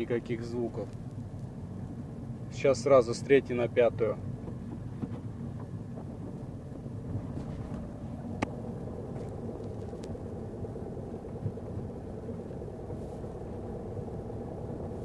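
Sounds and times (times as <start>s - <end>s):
car engine running: 0.0s - 15.0s
road rumble: 0.0s - 15.0s.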